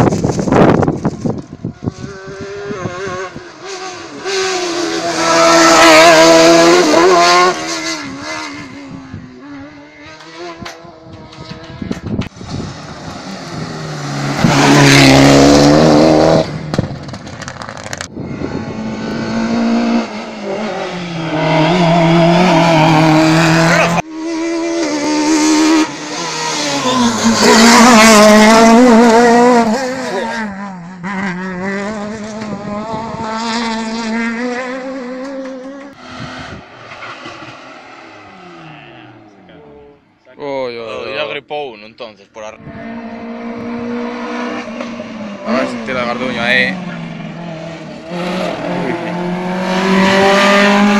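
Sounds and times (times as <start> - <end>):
rally car engines at high revs: 0.0 - 40.0, 42.6 - 50.9.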